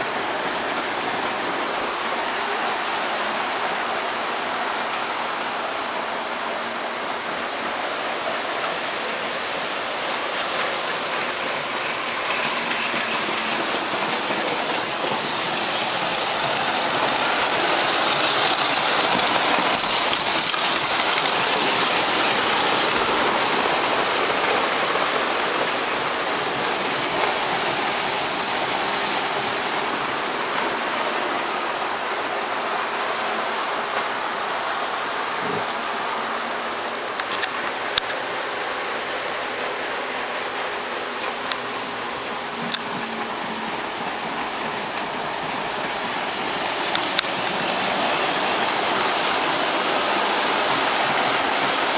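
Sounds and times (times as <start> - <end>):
model train wheels rumbling: 0.0 - 51.9.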